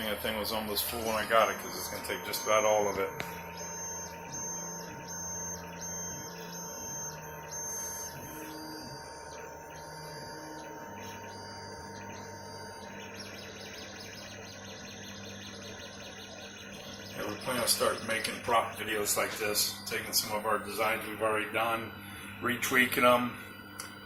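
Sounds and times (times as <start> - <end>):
printer stepper motors whining: 0.0 - 24.0.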